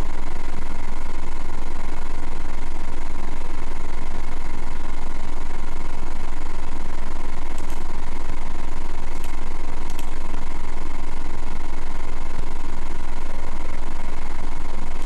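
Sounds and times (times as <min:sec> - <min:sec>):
loud low hum: 0:00.0 - 0:15.0.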